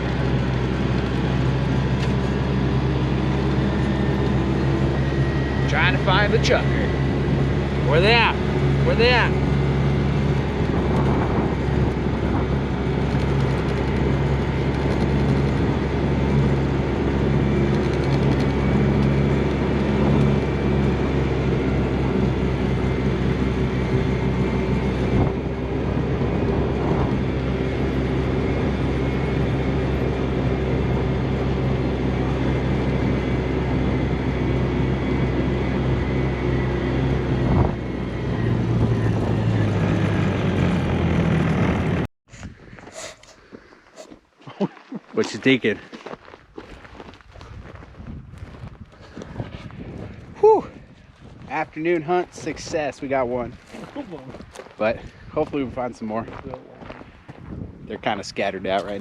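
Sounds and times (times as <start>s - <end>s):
vehicle engine running: 0.0s - 42.1s, 46.9s - 59.0s
road and wind noise: 0.0s - 44.4s, 45.2s - 59.0s.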